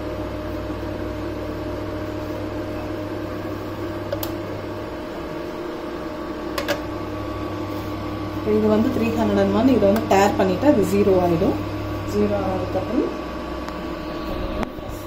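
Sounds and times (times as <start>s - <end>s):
cooktop fan hum: 0.0s - 15.0s.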